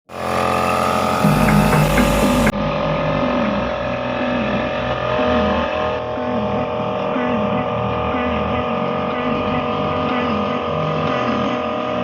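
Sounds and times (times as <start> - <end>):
electric sander sanding wood: 0.1 - 12.0.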